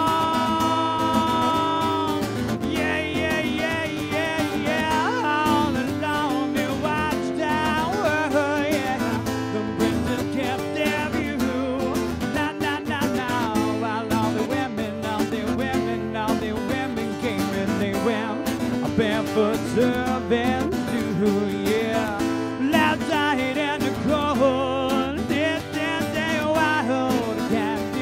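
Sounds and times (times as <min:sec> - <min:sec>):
strummed acoustic guitar: 0:00.0 - 0:28.0.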